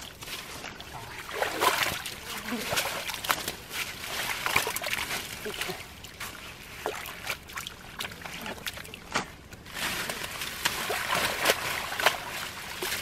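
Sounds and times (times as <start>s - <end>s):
mud and water squelching: 0.0s - 13.0s
small splashes: 0.0s - 13.0s.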